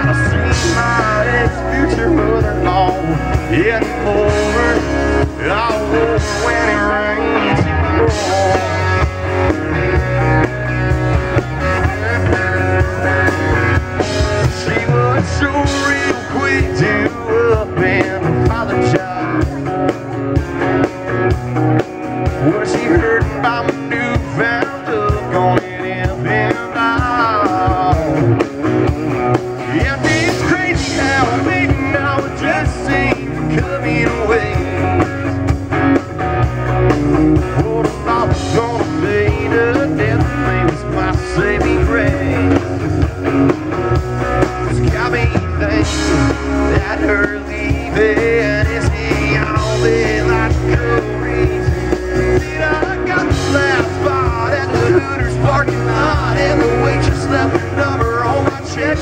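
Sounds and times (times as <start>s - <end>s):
live country-rock band: 0.0s - 59.0s.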